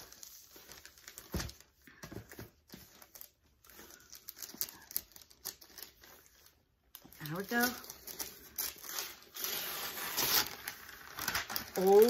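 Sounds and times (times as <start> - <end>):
wrapping paper crinkling and tearing: 0.0 - 1.8, 2.5 - 12.0.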